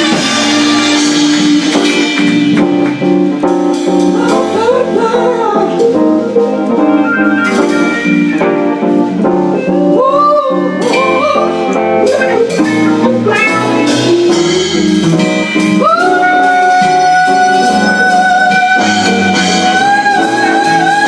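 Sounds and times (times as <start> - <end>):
sliding lead melody: 0.0 - 21.0
strummed guitar chords: 0.0 - 21.0.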